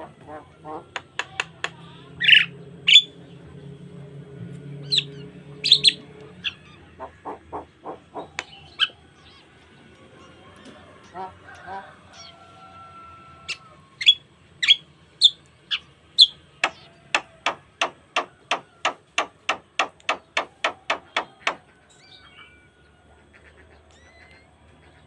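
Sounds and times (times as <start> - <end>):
myna bird singing: 0.0 - 12.4, 13.3 - 25.0.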